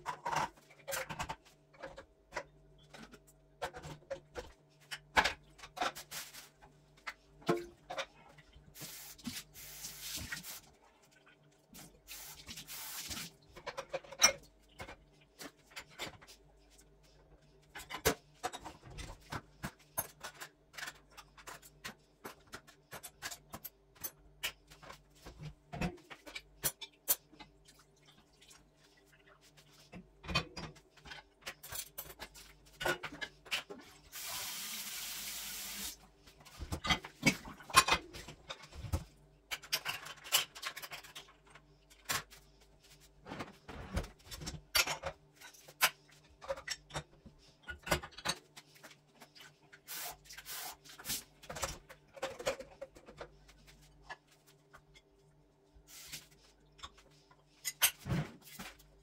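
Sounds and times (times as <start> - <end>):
clatter of kitchen items handled: 0.0 - 11.9, 12.5 - 34.2, 36.2 - 55.2, 55.9 - 59.0.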